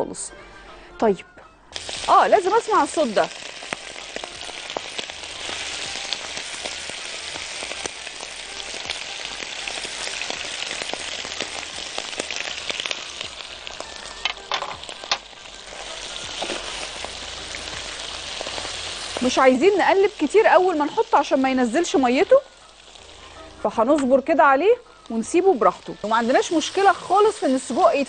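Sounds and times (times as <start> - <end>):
sausage sizzling in hot oil: 1.7 - 28.0.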